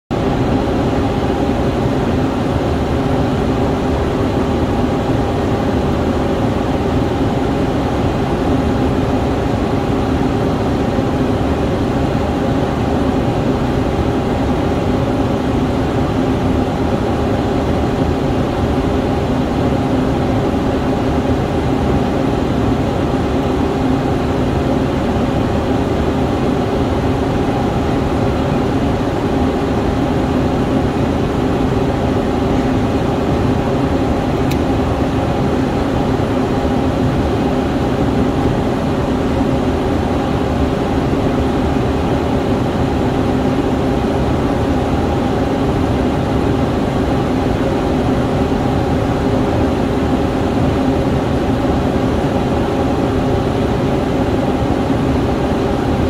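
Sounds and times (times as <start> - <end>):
jet cockpit drone: 0.2 - 56.0.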